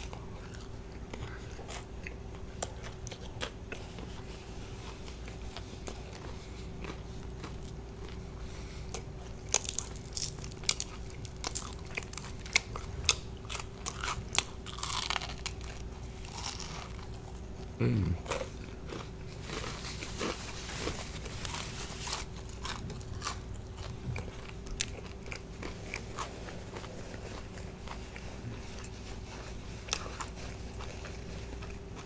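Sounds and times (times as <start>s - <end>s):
chewing crispy fried chicken: 0.0s - 32.0s.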